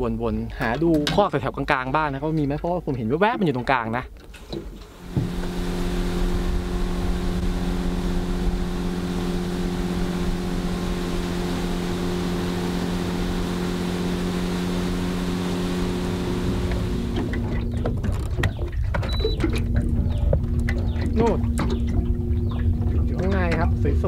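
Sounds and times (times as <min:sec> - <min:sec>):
boat motor humming: 0:03.6 - 0:24.0.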